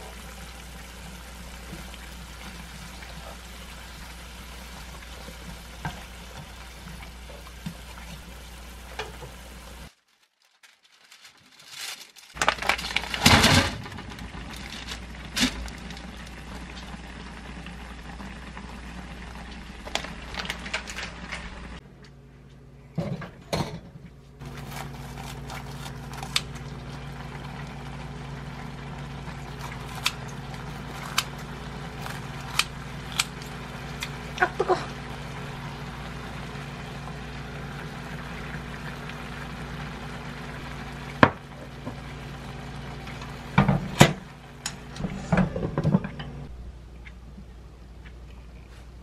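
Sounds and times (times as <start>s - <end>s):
broth simmering in a pan: 0.0s - 10.0s, 12.6s - 21.8s, 24.4s - 46.6s.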